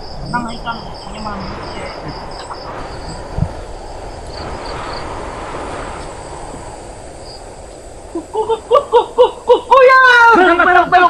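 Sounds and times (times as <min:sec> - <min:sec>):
crickets chirping: 0:00.0 - 0:11.0
steady rushing noise: 0:00.0 - 0:11.0.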